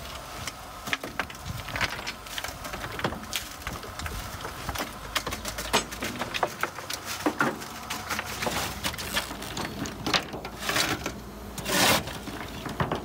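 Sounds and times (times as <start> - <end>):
low rumble of sliding coal: 0.0 - 13.0
coal clattering into metal bunker: 0.8 - 13.0.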